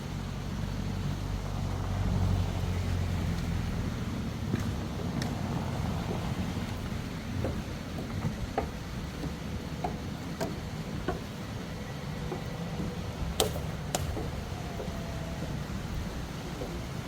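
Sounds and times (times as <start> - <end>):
low wind rumble on microphone: 0.0 - 17.0
footsteps on trail: 3.2 - 17.0.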